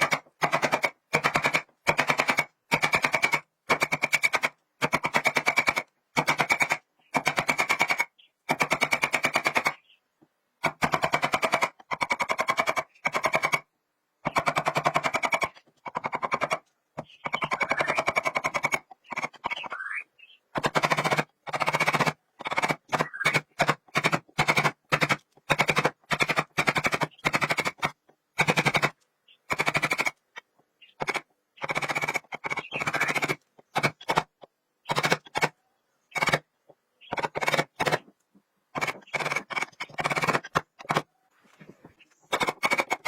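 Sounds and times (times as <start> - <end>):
power tool hammering rapidly: 0.0 - 9.8, 10.6 - 13.6, 14.2 - 19.7, 20.5 - 30.2, 31.0 - 35.5, 36.1 - 36.4, 37.1 - 38.0, 38.8 - 41.1, 42.3 - 43.0.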